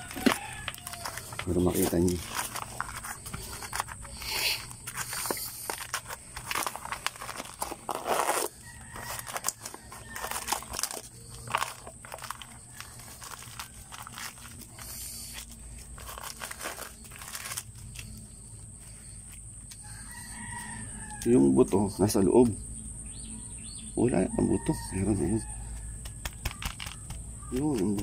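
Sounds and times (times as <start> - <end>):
dry gourd skin crackling: 0.0 - 21.4, 25.0 - 28.0.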